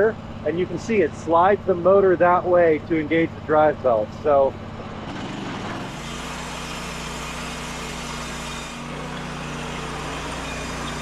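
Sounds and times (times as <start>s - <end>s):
bandsaw mill engine running: 0.0s - 11.0s.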